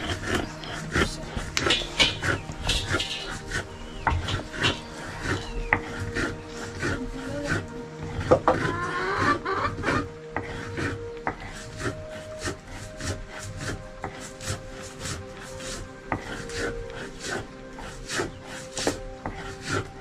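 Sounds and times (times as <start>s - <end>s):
rhythmic rasping strokes: 0.0s - 20.0s.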